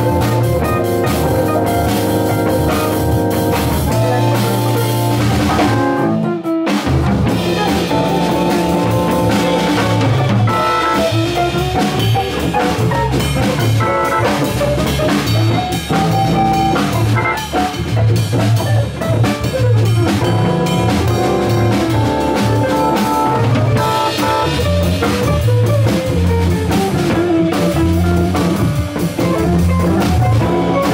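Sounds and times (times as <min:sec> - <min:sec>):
drum kit: 0:00.0 - 0:30.9
electric guitar: 0:00.0 - 0:30.9
organ: 0:00.0 - 0:30.9.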